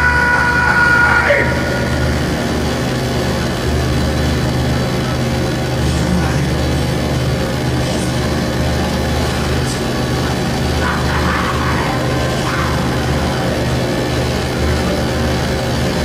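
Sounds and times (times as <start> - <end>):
distorted electronic noise music: 0.0 - 16.0
heavy low drone: 0.0 - 16.0
screeching glides: 0.0 - 16.0.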